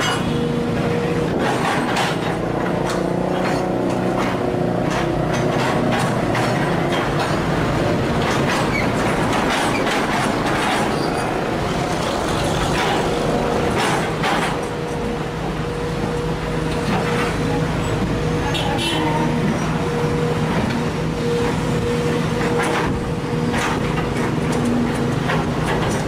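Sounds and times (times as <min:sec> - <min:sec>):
excavator engine droning: 0:00.0 - 0:26.0.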